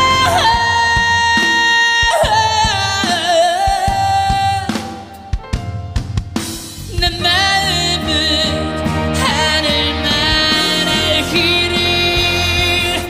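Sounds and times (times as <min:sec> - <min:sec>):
drum kit: 0:00.0 - 0:13.0.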